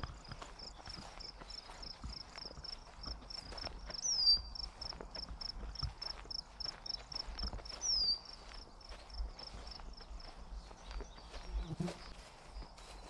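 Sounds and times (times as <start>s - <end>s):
footsteps on a trail: 0.0s - 13.0s.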